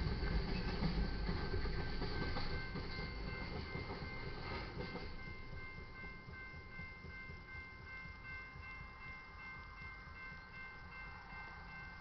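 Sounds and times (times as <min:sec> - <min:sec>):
crossing warning bell: 0:00.0 - 0:12.0
train wheels rumbling and clattering: 0:00.0 - 0:12.0.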